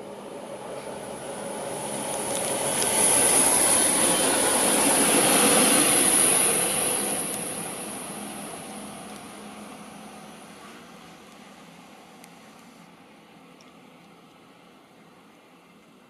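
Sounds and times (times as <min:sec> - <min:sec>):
wheel and rail hiss: 0:00.0 - 0:13.9
diesel train passing: 0:00.0 - 0:15.8.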